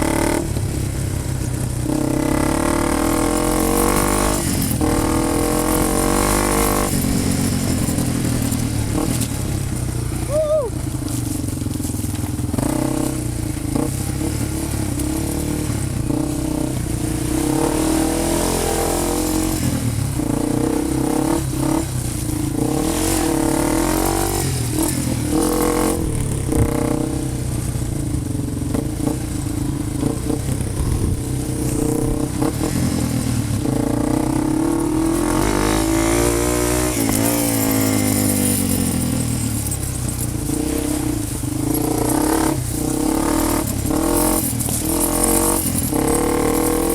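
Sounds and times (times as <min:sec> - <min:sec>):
vehicle engine revving: 0:00.0 - 0:46.9.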